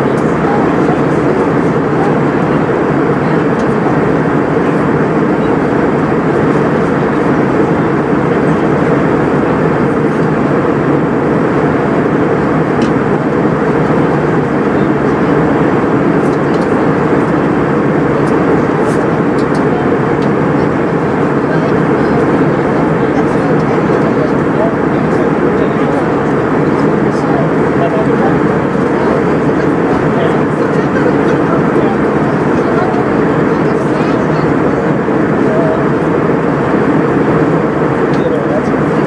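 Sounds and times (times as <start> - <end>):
airplane cabin engine and airflow noise: 0.0 - 39.0.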